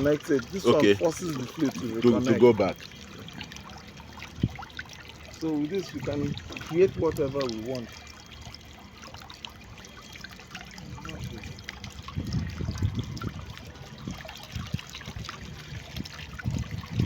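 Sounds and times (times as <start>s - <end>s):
fountain water trickling and splashing: 0.0s - 17.0s.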